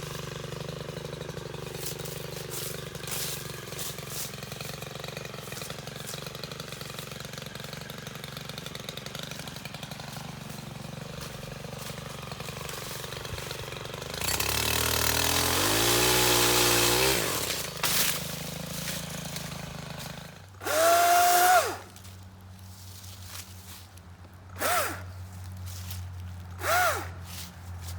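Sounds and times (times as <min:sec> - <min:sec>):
small engine idling and revving: 0:00.0 - 0:27.9.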